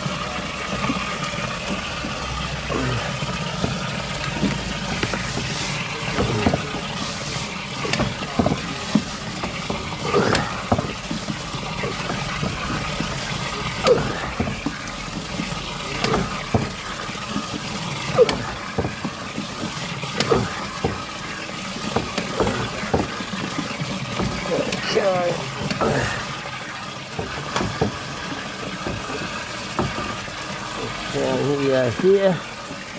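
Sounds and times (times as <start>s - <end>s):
water gurgling in drain pipe: 0.0s - 32.9s
sharp knocks: 0.8s - 26.4s, 27.1s - 31.1s.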